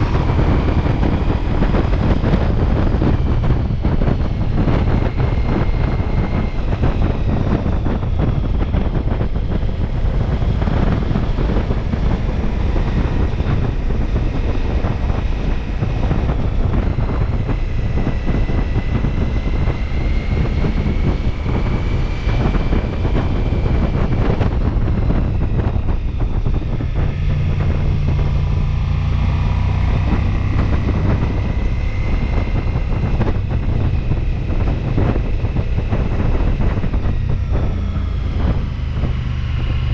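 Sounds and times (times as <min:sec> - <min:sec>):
motorcycle engine running: 0:00.0 - 0:39.9
wind buffeting on microphone: 0:00.0 - 0:39.9.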